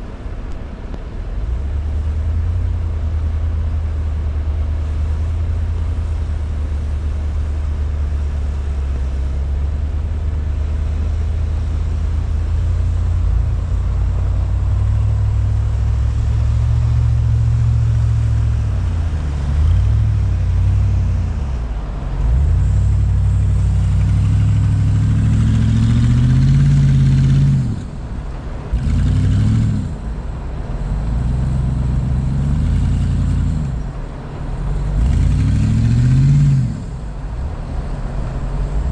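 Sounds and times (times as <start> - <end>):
off-road vehicle engine revving: 1.4 - 38.9.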